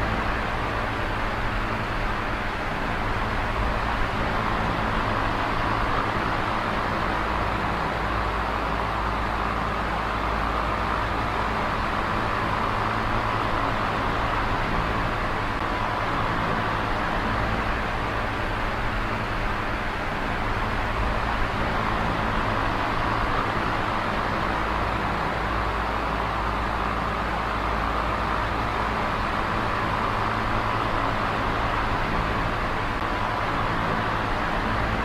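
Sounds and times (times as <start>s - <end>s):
electric fan running: 0.0s - 35.0s.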